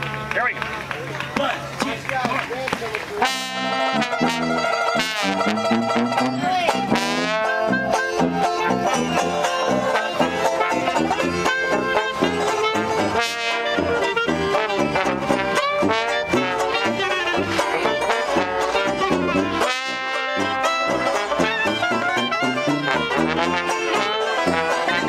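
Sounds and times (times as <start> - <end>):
jazz band playing: 2.9 - 25.0.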